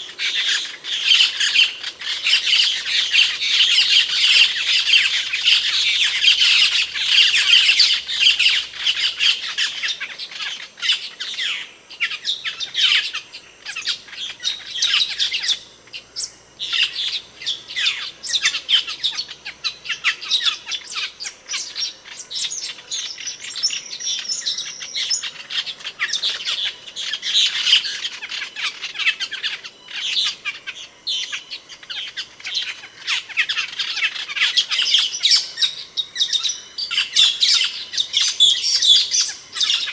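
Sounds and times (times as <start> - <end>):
starling chirps and squawks: 0.0 - 39.9.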